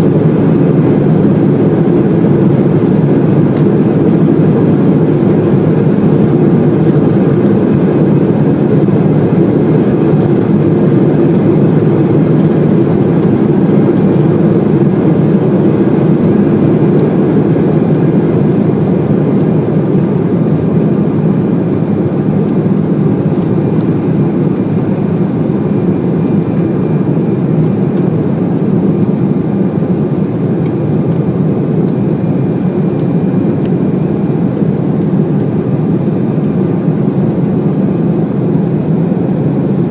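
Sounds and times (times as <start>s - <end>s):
faint steady engine whine: 0.0s - 39.9s
jet engine cabin rumble: 0.0s - 39.9s.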